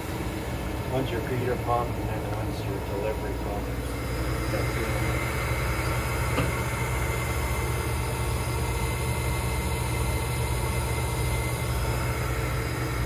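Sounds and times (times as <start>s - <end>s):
air pumps humming: 0.0s - 13.0s.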